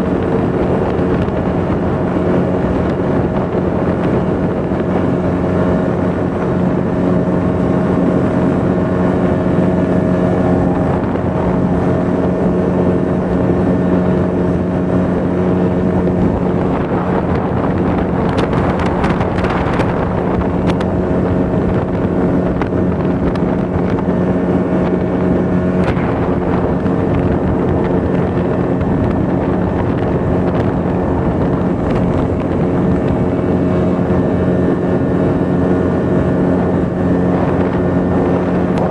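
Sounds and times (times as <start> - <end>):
motorboat engine running: 0.0 - 38.9
wind buffeting microphone: 0.0 - 38.9.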